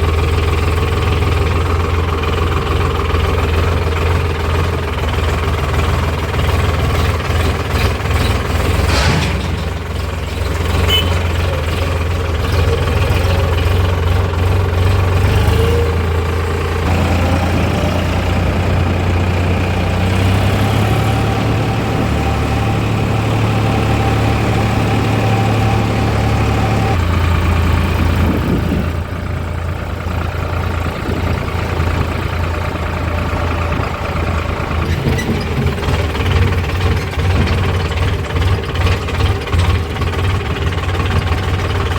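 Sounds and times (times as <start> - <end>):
heavy diesel engines running: 0.0 - 41.9.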